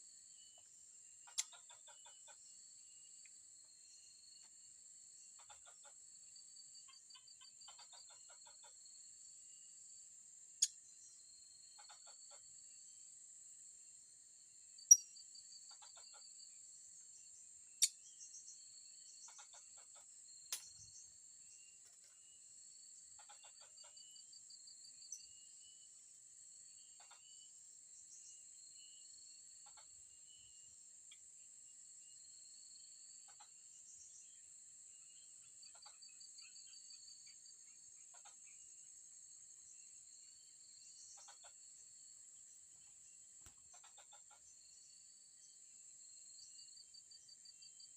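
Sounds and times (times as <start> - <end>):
faint bird chirps: 0.0 - 13.2, 14.6 - 47.9
insects droning: 0.0 - 47.9.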